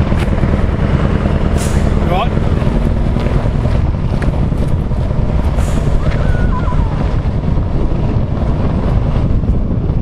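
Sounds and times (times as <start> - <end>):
truck diesel engine rumbling: 0.0 - 10.0
wind buffeting microphone: 0.0 - 10.0.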